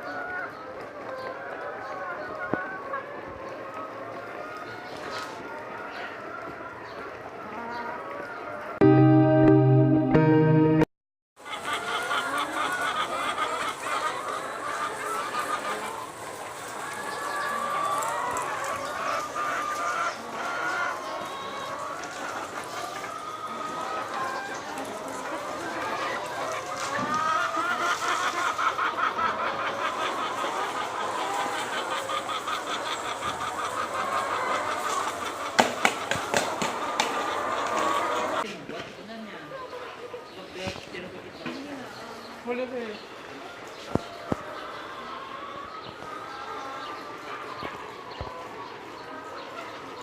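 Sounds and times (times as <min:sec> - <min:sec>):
chickens clucking: 0:00.0 - 0:10.8, 0:11.4 - 0:50.0.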